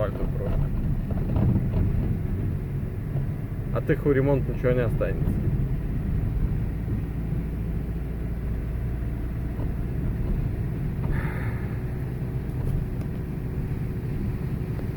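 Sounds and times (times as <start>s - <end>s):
car engine running: 0.0s - 14.9s
road rumble: 0.0s - 14.9s.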